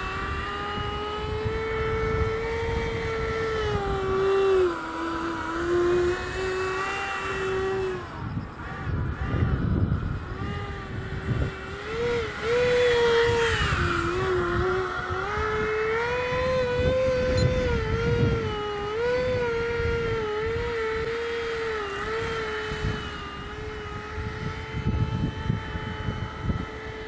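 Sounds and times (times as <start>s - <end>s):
electric fan motor whine: 0.0s - 27.0s
wind rumble on microphone: 0.0s - 27.0s.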